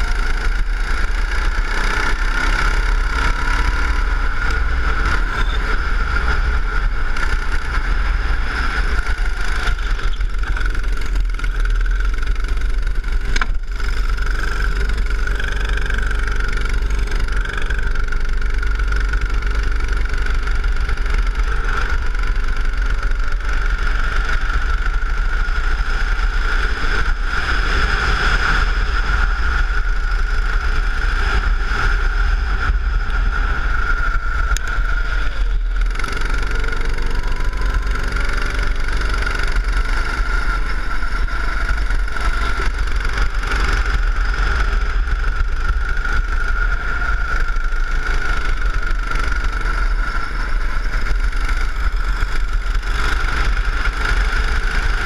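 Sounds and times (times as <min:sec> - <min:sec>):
go-kart engine running hard: 0:00.0 - 0:55.0
wind rumble on microphone: 0:00.0 - 0:55.0.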